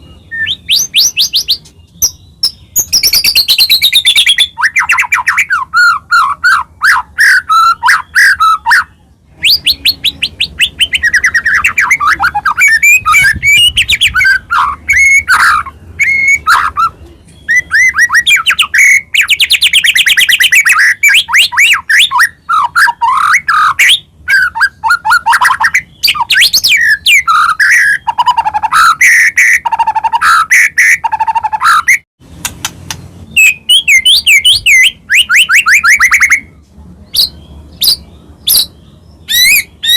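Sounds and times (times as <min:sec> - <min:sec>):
songbird singing trills: 0:00.0 - 0:32.0, 0:32.7 - 0:39.9.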